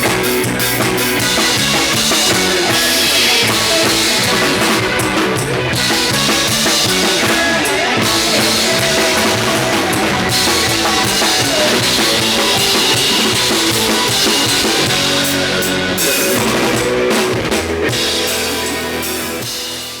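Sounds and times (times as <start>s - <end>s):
bass guitar: 0.0s - 20.0s
drum kit: 0.0s - 20.0s
guitar: 0.0s - 20.0s.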